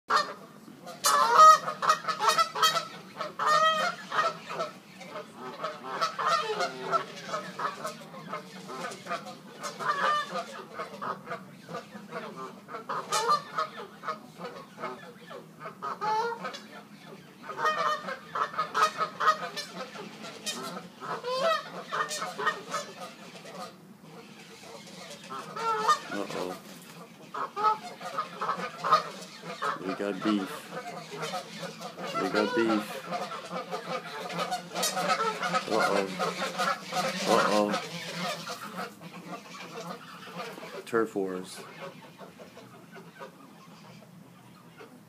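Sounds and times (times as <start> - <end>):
geese honking: 0.1 - 45.0.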